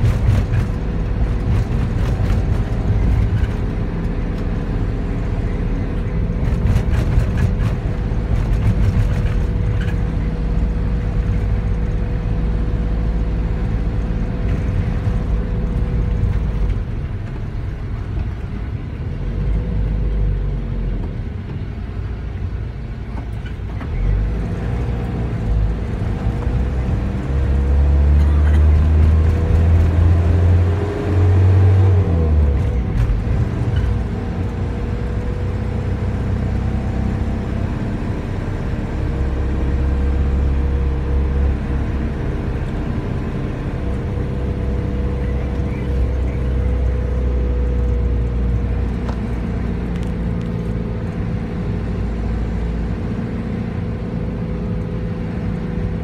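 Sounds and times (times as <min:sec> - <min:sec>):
vehicle engine and road rumble: 0:00.0 - 0:56.0.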